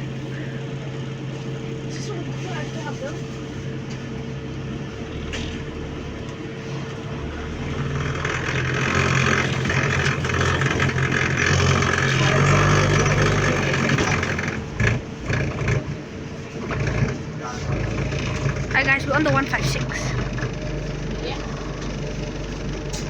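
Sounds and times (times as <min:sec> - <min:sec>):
bus engine humming: 0:00.0 - 0:23.0
rush of road noise: 0:00.0 - 0:23.0.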